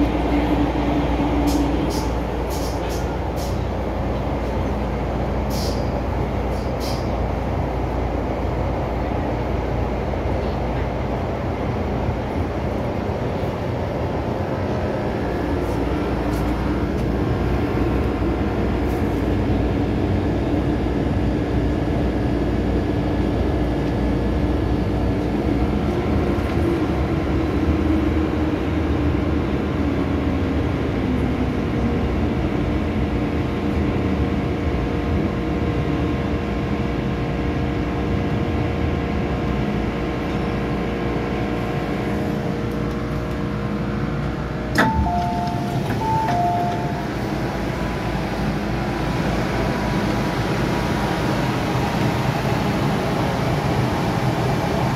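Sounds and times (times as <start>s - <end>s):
train rumble and motor whine: 0.0s - 54.9s.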